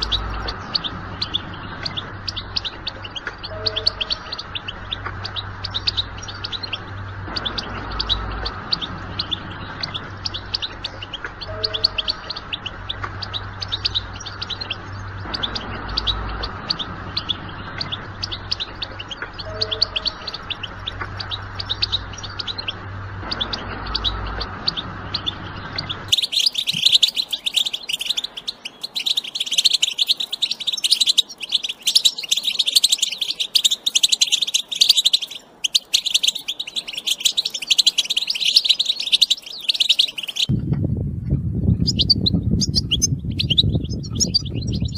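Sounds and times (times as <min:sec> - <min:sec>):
finch twittering song: 0:00.0 - 0:44.9
low background hum: 0:00.0 - 0:44.9.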